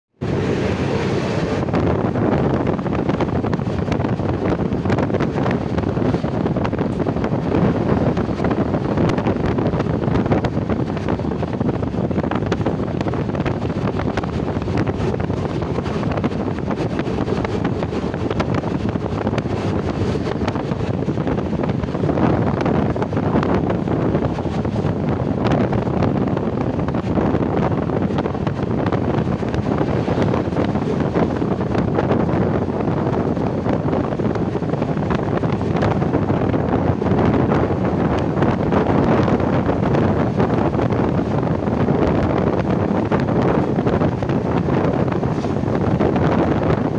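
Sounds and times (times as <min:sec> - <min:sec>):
wind buffeting microphone: 0:00.1 - 0:46.9.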